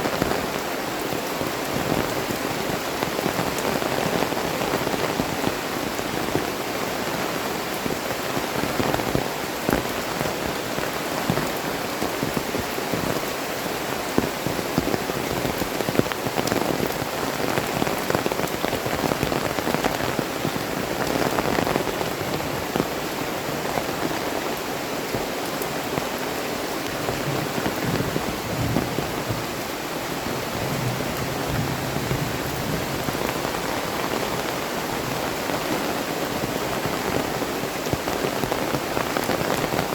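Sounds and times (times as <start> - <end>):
heavy rain falling: 0.0 - 39.9
raindrops striking close by: 0.0 - 39.9.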